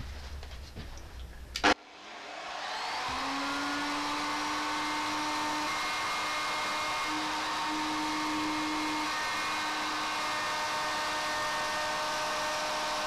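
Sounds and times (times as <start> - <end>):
electric router motor whining: 1.9 - 13.0.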